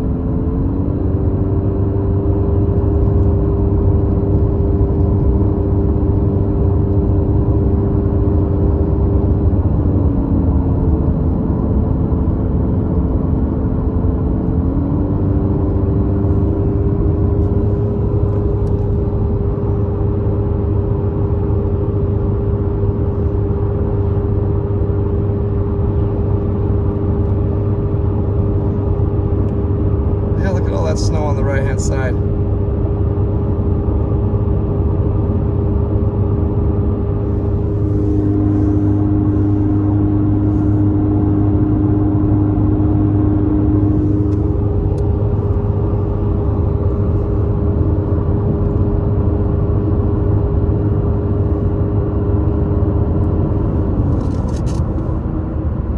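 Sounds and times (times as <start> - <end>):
car engine and tyre drone: 0.0 - 55.9.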